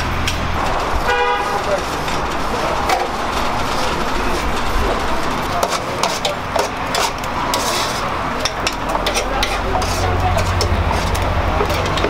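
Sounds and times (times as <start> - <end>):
street background noise: 0.0 - 12.0.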